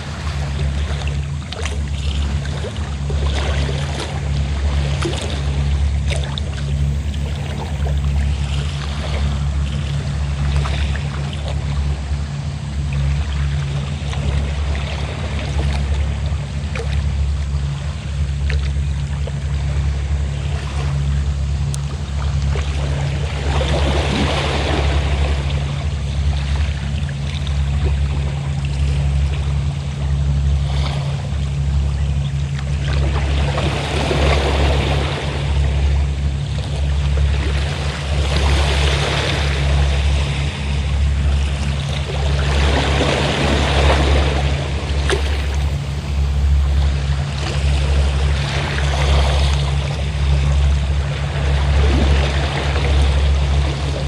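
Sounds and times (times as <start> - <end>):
boat engine droning: 0.0 - 54.0
waves washing onto shore: 0.0 - 54.0.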